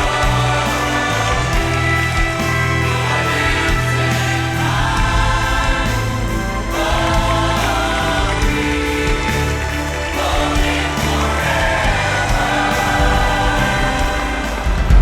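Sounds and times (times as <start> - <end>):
band accompaniment: 0.0 - 15.0
choir singing: 0.0 - 15.0.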